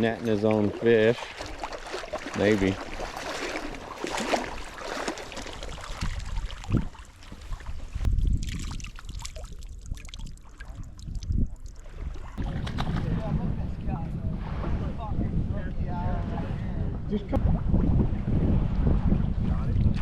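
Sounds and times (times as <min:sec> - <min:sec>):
water splashing and sloshing: 0:00.0 - 0:20.0
wind buffeting microphone: 0:00.0 - 0:20.0.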